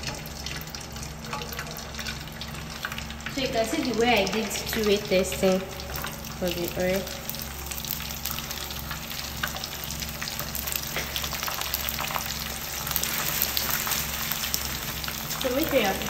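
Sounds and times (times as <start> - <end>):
crackers sizzling in hot oil: 0.0 - 16.0.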